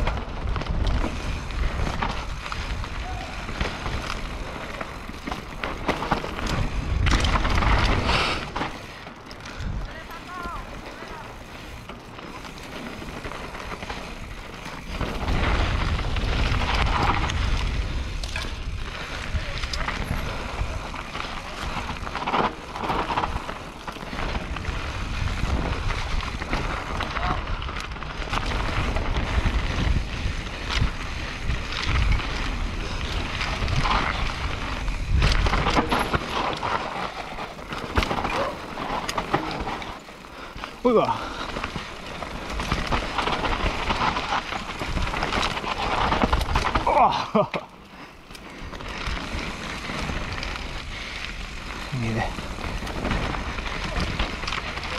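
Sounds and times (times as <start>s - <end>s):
wind rumbling on microphone: 0.0s - 47.5s
bike rattling clicks: 0.0s - 54.9s
tyres on loose ground: 0.0s - 54.9s.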